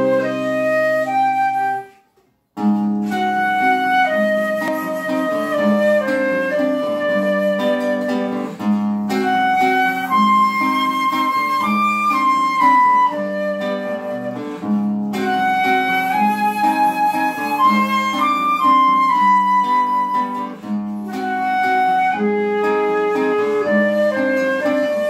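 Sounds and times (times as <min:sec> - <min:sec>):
plucked guitar chords: 0:00.0 - 0:02.0, 0:02.6 - 0:25.0
flute melody: 0:00.0 - 0:25.0.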